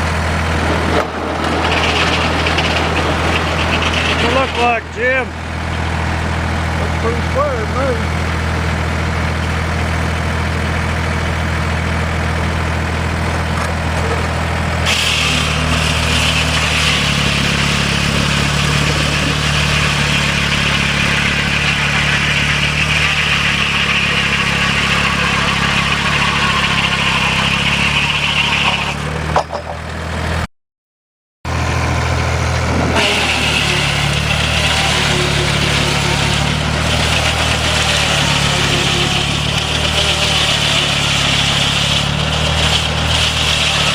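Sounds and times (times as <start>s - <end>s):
saw blade cutting timber: 0.0s - 10.9s, 13.3s - 29.9s, 32.4s - 43.9s
sawmill engine running: 0.0s - 30.5s, 31.5s - 43.9s.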